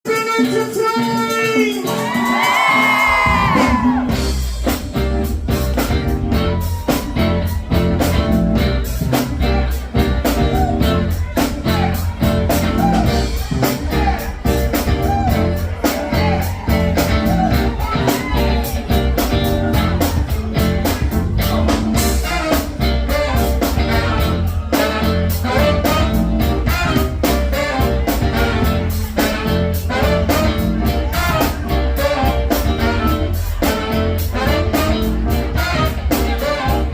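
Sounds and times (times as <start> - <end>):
soul-jazz music with singer: 0.1 - 36.9.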